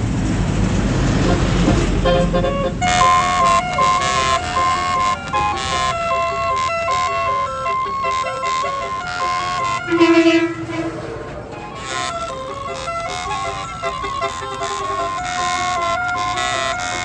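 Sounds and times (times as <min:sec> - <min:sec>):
low engine rumble: 0:00.0 - 0:17.0
bus horn playing a melody: 0:01.0 - 0:17.0.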